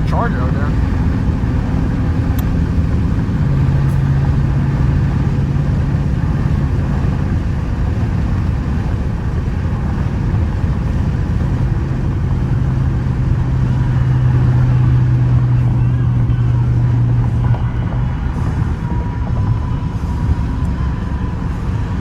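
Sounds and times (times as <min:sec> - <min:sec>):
car exhaust drone from cabin: 0:00.0 - 0:22.0.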